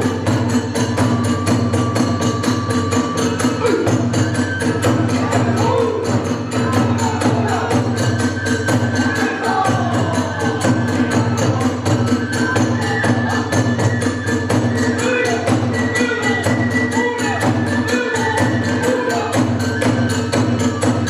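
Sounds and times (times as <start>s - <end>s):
drum beat: 0.0s - 21.0s
sliding flute line: 1.1s - 21.0s.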